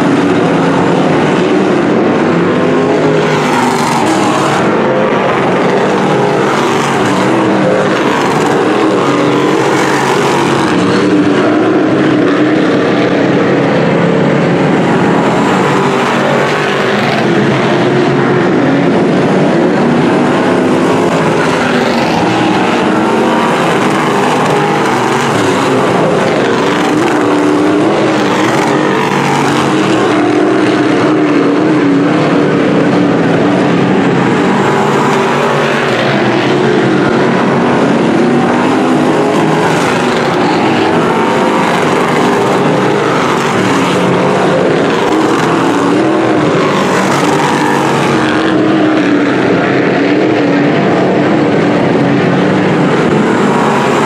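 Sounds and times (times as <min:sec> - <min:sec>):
race car engines running: 0:00.0 - 0:54.0.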